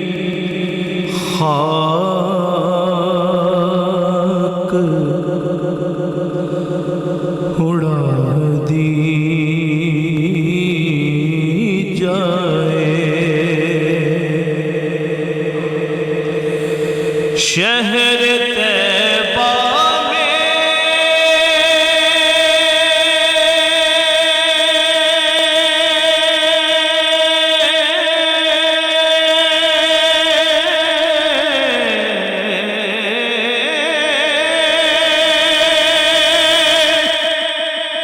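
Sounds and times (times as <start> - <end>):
man singing a long held note: 0.0 - 38.0.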